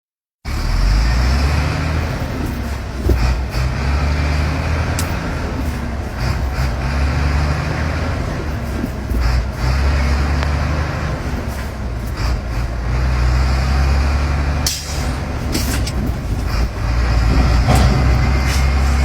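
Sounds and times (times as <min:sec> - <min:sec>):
heavy truck engine: 0:00.5 - 0:19.0.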